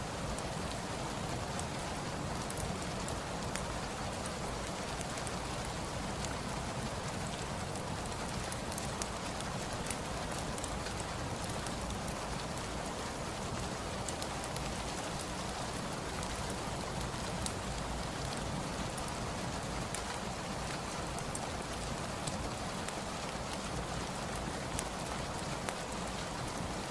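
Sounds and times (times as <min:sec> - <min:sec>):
steady rain: 0:00.0 - 0:26.9
wood fire crackling: 0:00.1 - 0:26.9.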